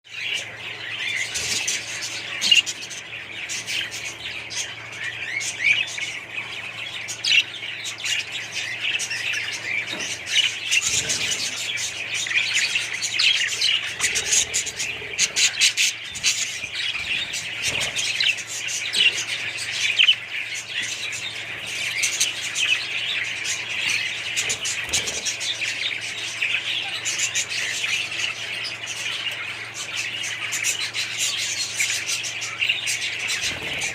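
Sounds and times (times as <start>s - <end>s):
parrots chirping and chattering: 0.1s - 33.9s.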